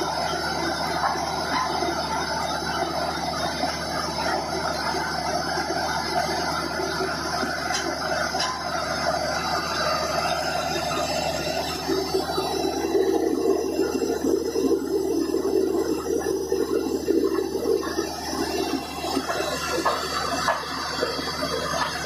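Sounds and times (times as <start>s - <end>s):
drilling rig mechanical drone: 0.0s - 22.0s.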